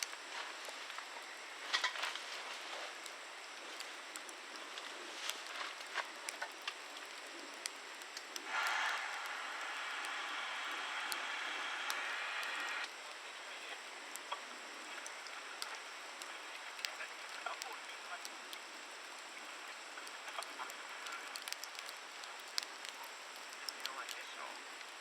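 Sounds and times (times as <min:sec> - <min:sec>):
campfire crackling and popping: 0:00.0 - 0:25.0
steady hiss: 0:00.0 - 0:25.0.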